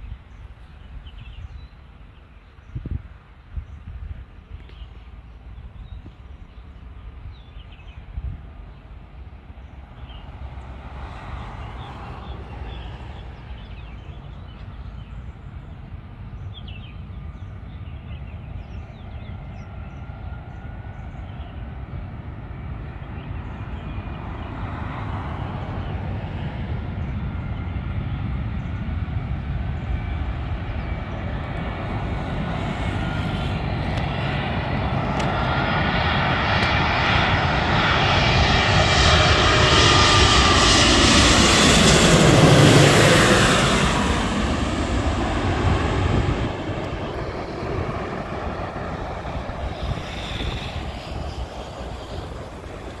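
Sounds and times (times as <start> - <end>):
birds chirping: 0.0 - 53.0
jet engine whine: 0.0 - 53.0
jet engines rumbling: 0.0 - 53.0.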